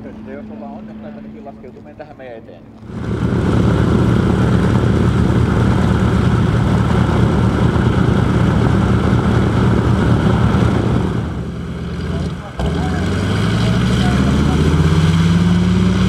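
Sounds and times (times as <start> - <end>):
radial aircraft engine droning: 0.0 - 16.0.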